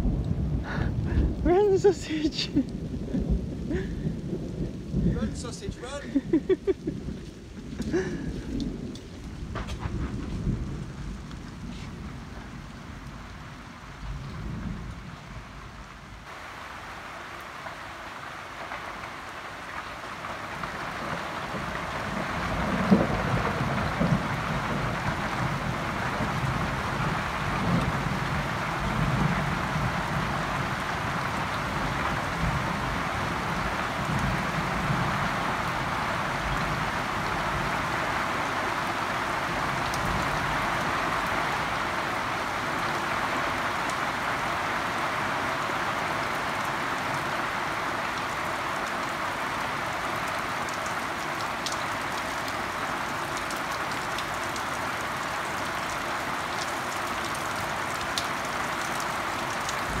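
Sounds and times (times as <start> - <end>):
rain hissing: 0.0 - 60.0.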